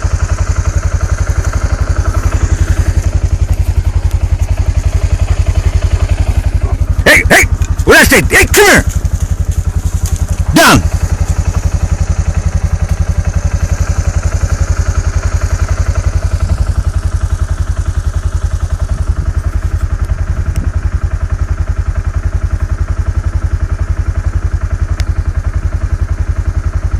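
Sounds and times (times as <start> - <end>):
vehicle engine idling: 0.0 - 26.9.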